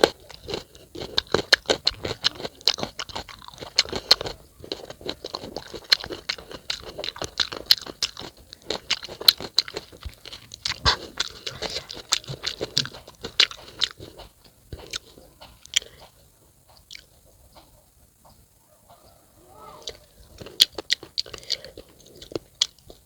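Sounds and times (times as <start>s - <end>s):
chewing crunchy raw fruit: 0.0s - 18.2s, 19.7s - 23.0s.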